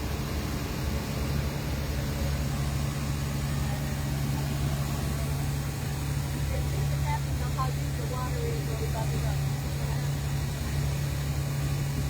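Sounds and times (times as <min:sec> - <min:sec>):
boat engine droning: 0:00.0 - 0:12.0
constant rushing noise: 0:00.0 - 0:12.0.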